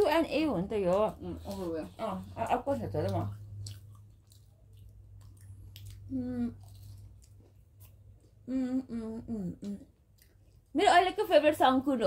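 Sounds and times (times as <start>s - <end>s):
people chewing: 0.0s - 10.7s
low steady hum: 0.0s - 12.0s.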